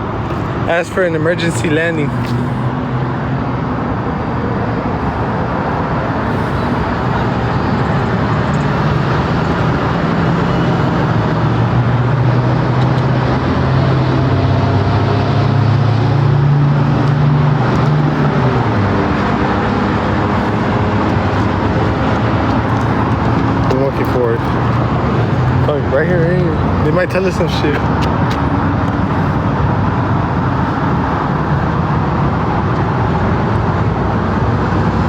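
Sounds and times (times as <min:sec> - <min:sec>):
tyre and road noise: 0:00.0 - 0:35.0
vehicle engine hum: 0:00.0 - 0:35.0.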